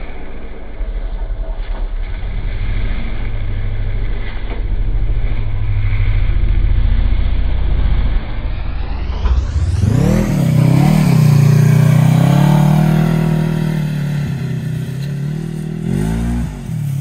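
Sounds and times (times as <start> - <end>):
off-road vehicle engine climbing hill: 0.0 - 17.0.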